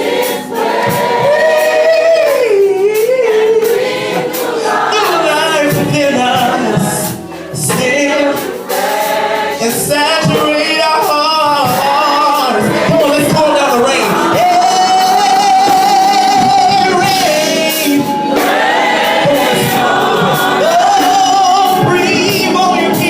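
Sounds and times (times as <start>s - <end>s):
gospel choir singing: 0.0s - 23.0s
lead vocalist singing: 0.0s - 23.0s.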